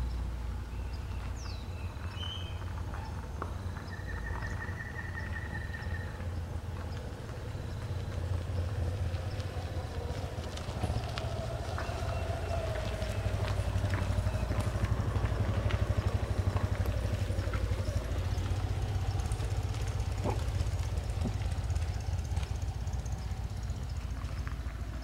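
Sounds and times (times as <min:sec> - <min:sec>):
engine rumble: 0:00.0 - 0:25.0.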